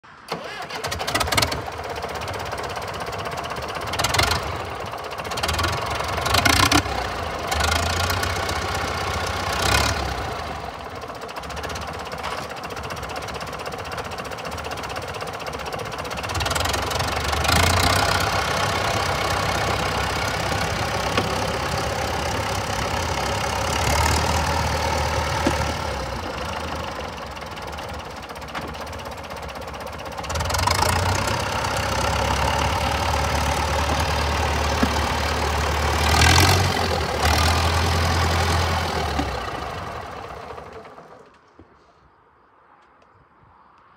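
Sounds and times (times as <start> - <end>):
tractor engine running: 0.0 - 41.6.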